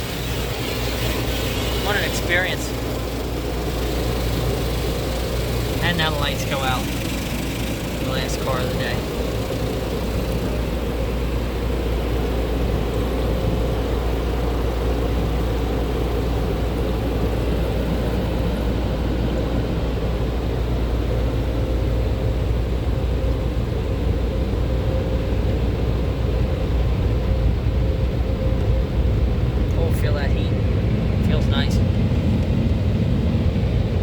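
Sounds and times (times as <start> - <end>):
dryer blowers rushing air: 0.0 - 34.0
faint steady hum: 0.0 - 34.0.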